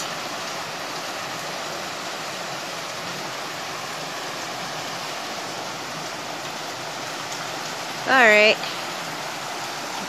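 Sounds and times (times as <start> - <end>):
river water rushing over boulders: 0.0 - 10.0.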